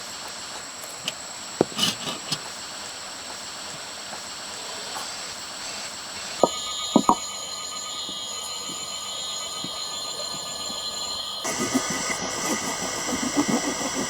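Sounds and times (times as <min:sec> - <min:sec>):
faint high whine: 0:00.0 - 0:14.0
steady hiss: 0:00.0 - 0:14.0.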